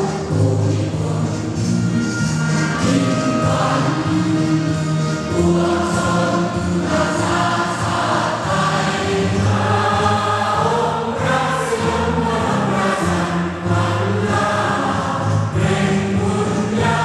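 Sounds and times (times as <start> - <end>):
choir singing slow held notes: 2.6 - 17.0.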